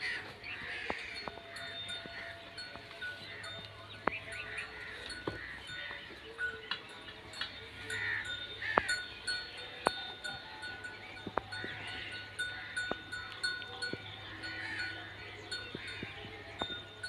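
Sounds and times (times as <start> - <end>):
goats calling: 0.0 - 17.0
thin bell-like ringing: 0.0 - 17.0.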